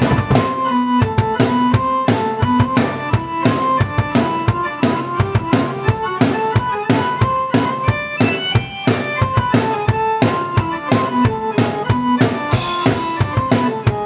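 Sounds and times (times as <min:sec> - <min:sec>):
bass drum and snare beat: 0:00.0 - 0:11.1, 0:12.4 - 0:14.0
keyboard melody: 0:00.0 - 0:14.0.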